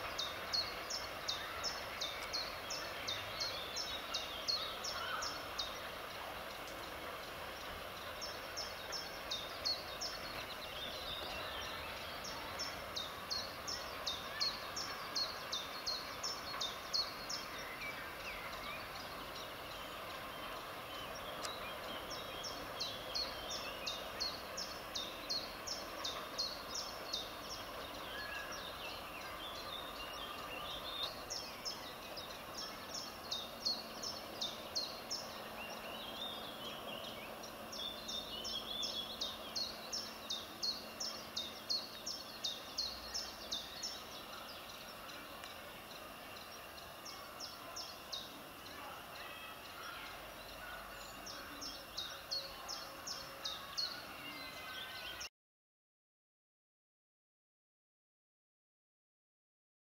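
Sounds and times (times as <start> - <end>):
faint background hiss: 0.0 - 55.3.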